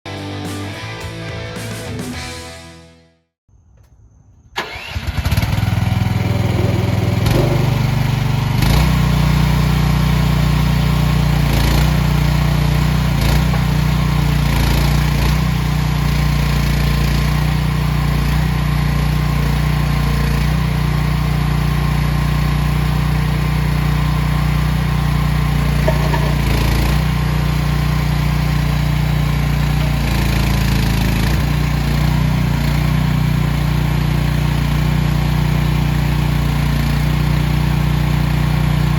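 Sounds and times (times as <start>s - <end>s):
excavator engine starting and running: 4.6s - 38.9s.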